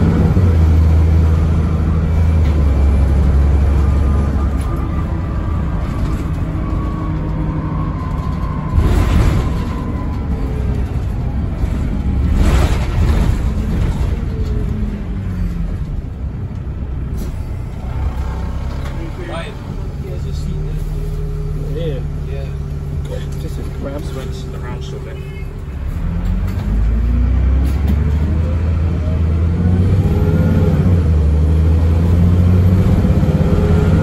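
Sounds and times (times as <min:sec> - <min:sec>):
bus engine running hard: 0:00.0 - 0:34.0.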